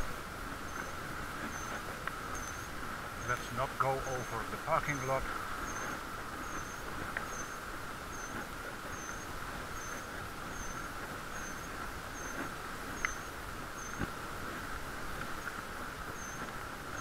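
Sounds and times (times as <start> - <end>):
muffled bicycle riding hiss: 0.0 - 17.0.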